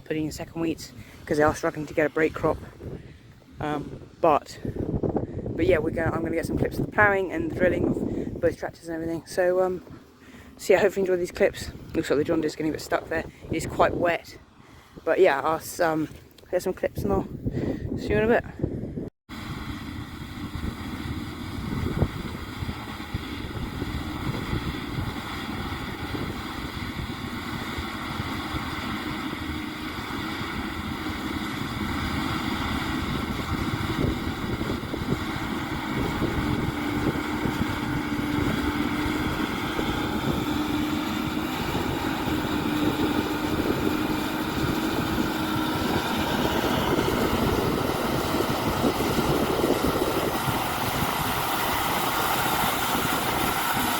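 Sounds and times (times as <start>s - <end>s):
tractor engine droning: 0.0s - 17.1s, 19.3s - 53.9s.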